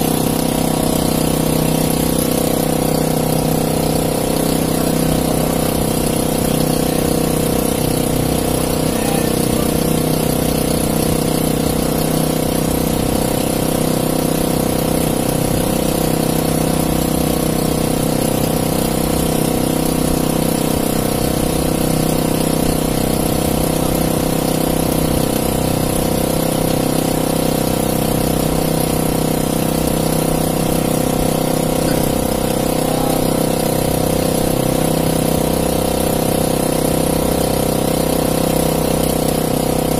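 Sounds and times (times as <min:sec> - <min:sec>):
small boat engine running: 0:00.0 - 0:39.9.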